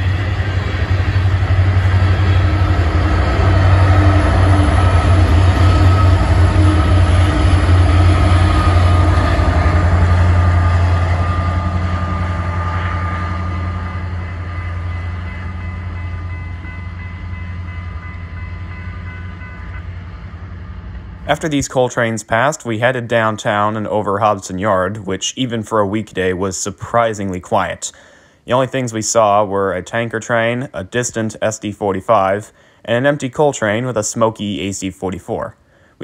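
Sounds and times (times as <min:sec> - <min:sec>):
diesel locomotive passing: 0:00.0 - 0:36.0
freight train rumbling past: 0:00.0 - 0:36.0.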